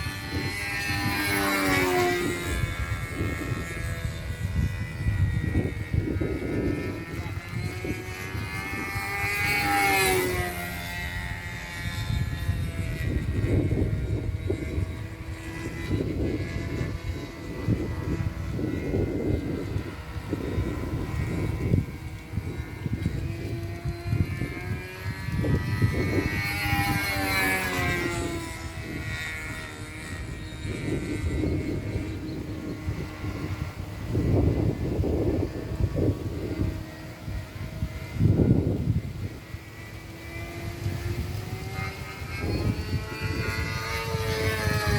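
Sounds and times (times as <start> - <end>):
model airplane engine whine passing: 0.0 - 44.9.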